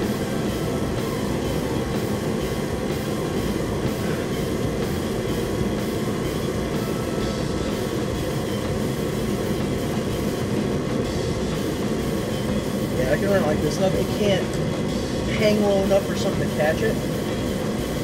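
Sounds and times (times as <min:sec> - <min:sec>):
faint background music: 0:00.0 - 0:18.0
forced-air heater running: 0:00.0 - 0:18.0.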